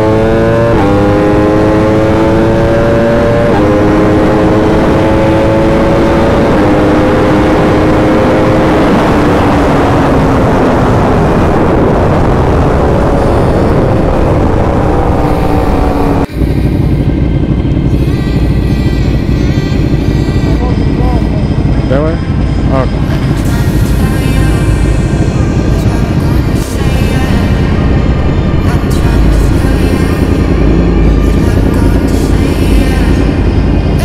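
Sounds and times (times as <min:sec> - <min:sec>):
heavy rushing noise: 0:00.0 - 0:34.0
motorcycle engine revving: 0:00.0 - 0:34.0.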